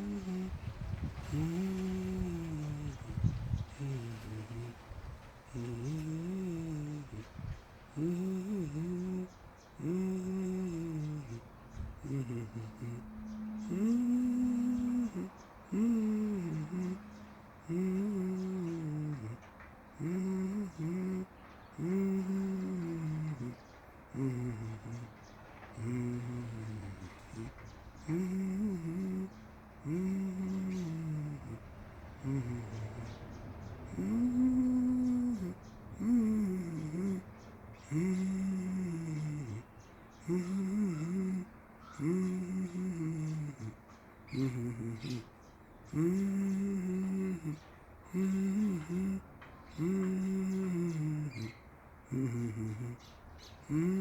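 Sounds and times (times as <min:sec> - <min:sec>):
low drawn-out moaning calls: 0:00.0 - 0:54.0
person humming low notes: 0:00.0 - 0:54.0.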